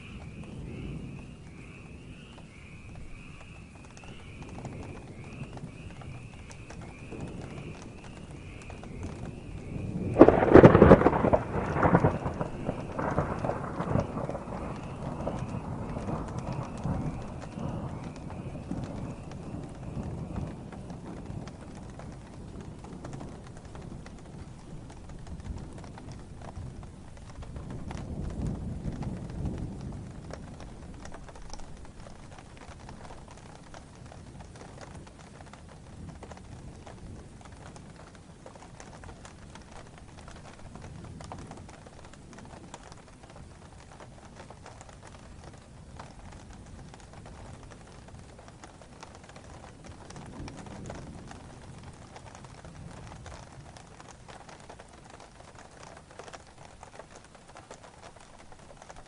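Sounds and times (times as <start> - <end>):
distant thunder rumbling: 0.0 - 59.0
steady rain: 0.0 - 59.0.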